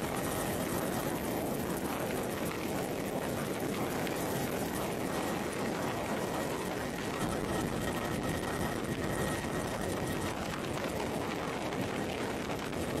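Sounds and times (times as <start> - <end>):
faint high whine: 0.0 - 12.8
helicopter engine and rotor: 0.0 - 13.0.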